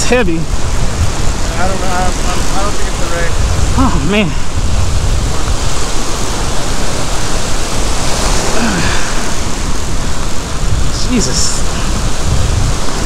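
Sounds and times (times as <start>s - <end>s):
waves breaking on beach: 0.0s - 13.0s
wind rumble on microphone: 0.0s - 13.0s.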